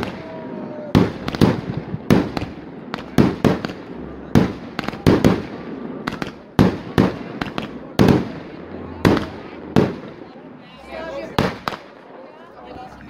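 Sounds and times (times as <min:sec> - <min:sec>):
fireworks bangs with echo: 0:00.0 - 0:10.4, 0:11.2 - 0:12.1.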